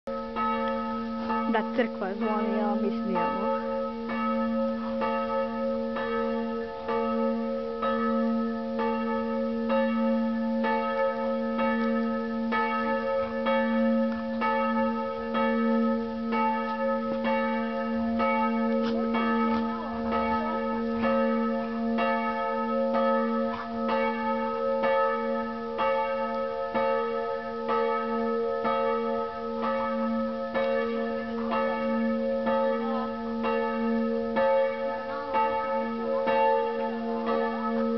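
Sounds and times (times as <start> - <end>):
church bells ringing: 0.1 - 37.9.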